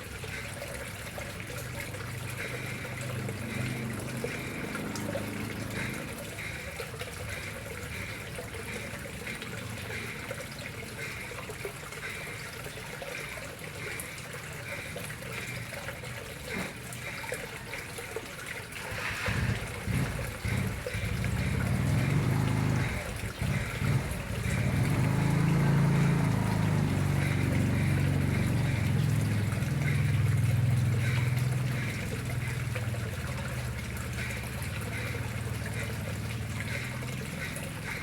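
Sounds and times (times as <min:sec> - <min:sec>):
water trickling into pond: 0:00.0 - 0:38.0.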